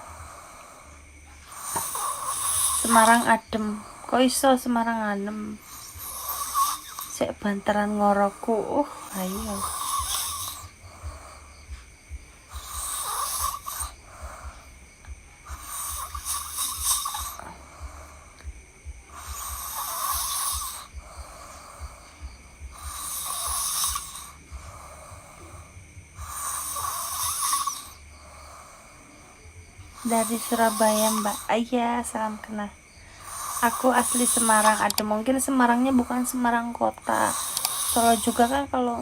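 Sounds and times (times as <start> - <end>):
person snoring loudly: 0.0 - 39.0
quiet breaths: 0.0 - 39.0.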